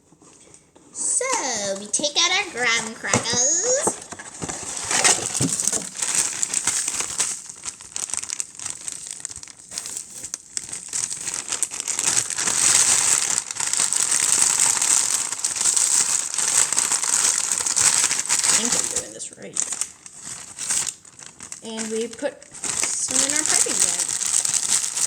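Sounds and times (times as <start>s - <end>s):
plastic packaging crinkling: 0.1s - 25.0s.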